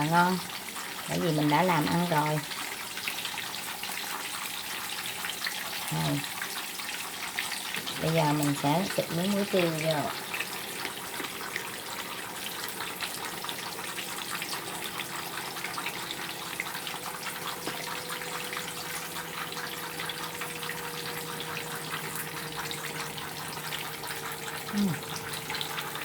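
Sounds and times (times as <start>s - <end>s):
tofu skin sizzling in hot oil: 0.0s - 25.8s.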